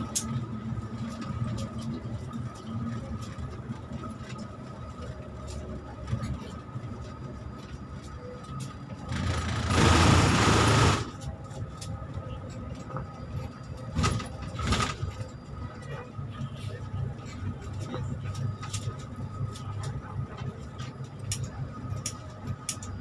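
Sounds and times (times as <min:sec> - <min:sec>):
bus engine rumbling: 0:00.0 - 0:23.0.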